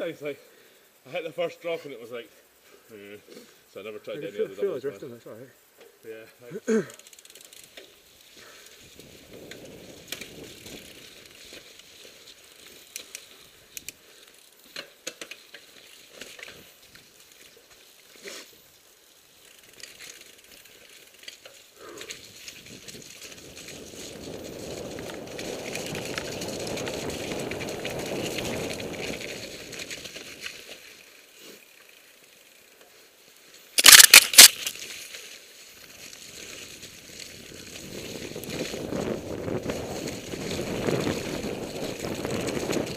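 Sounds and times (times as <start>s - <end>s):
bike rattling: 6.8s - 42.9s.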